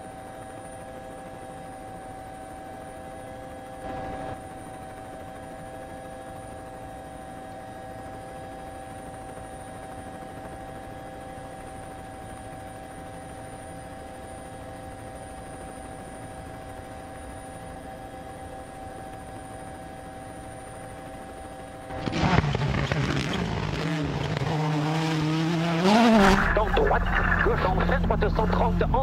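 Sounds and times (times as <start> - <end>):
helicopter drone: 0.0 - 29.0.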